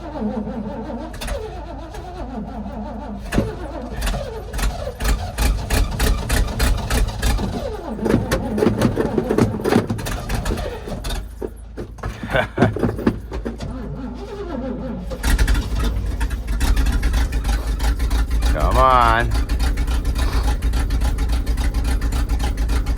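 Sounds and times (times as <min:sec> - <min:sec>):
engine cranking on cold start: 0:00.0 - 0:22.9.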